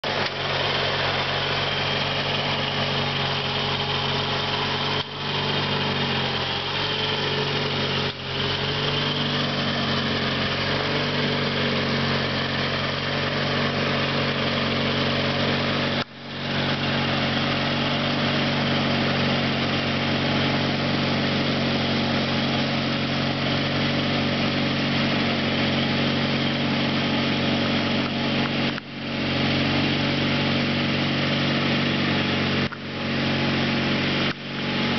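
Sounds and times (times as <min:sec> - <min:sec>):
garden tractor engine mowing: 0:00.0 - 0:34.9.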